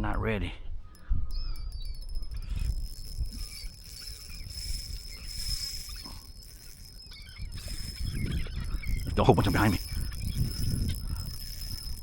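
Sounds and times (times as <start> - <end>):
wind on microphone: 0.6 - 12.0
seabirds calling: 0.7 - 12.0
thin high whine: 1.0 - 12.0.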